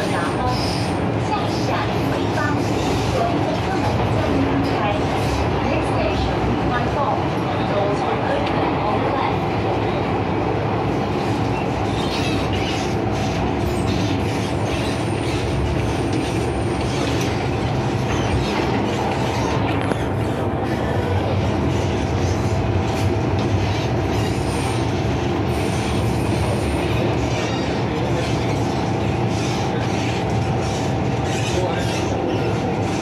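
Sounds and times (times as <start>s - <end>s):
train wheels and carriage rumble: 0.0s - 33.0s.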